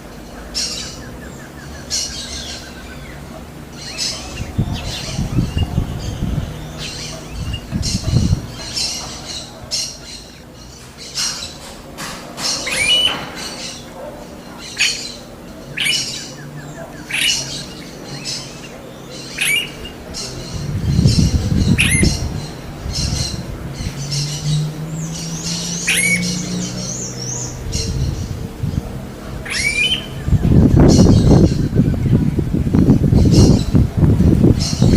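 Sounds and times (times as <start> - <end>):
bird squawking calls: 0.0 - 28.6, 29.2 - 32.1
low rumbles: 0.0 - 34.9.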